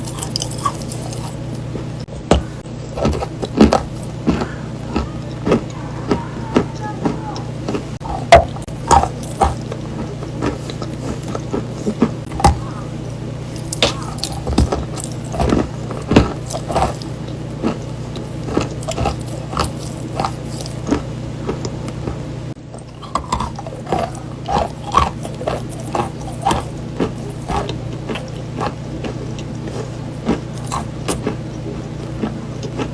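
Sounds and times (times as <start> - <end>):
chalk crunching while chewed: 0.0 - 32.9
steady low hum: 0.0 - 32.9.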